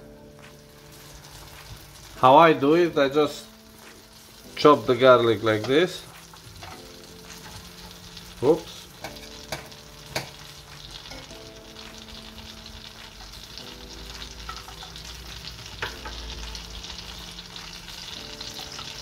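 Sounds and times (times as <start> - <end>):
butter sizzling in a frying pan: 0.0 - 19.0.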